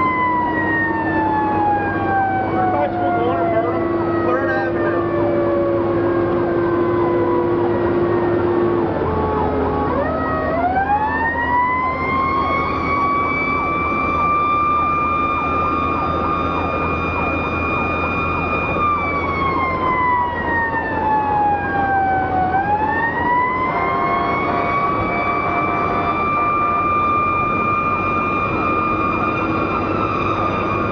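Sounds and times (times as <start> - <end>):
engine drone: 0.0 - 30.9
fire engine siren wailing: 0.0 - 30.9.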